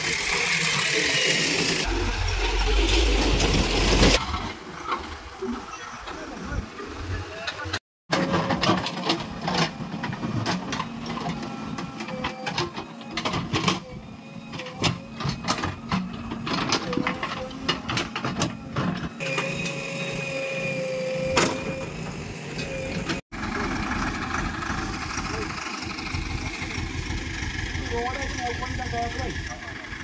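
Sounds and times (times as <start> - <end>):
diesel engine running: 0.0 - 4.2, 9.2 - 30.0.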